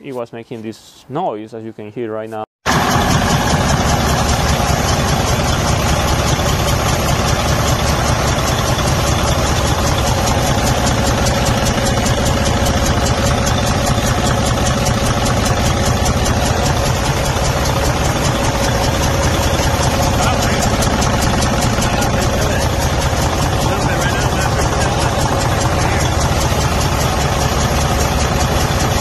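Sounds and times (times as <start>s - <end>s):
diesel engine idling with clatter: 2.7s - 29.0s.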